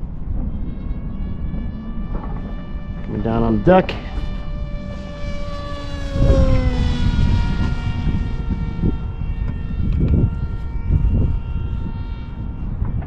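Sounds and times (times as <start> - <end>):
electric motor propeller whine: 0.0 - 13.0
wind buffeting microphone: 0.0 - 13.0.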